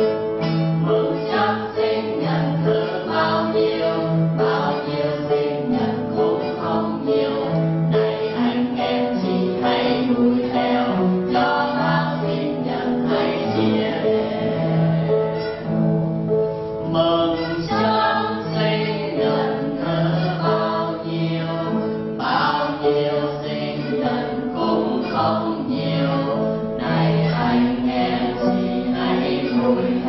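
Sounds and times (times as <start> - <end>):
group singing a birthday song: 0.0 - 15.7, 16.9 - 30.0
acoustic guitar: 0.0 - 30.0
piano: 0.0 - 30.0.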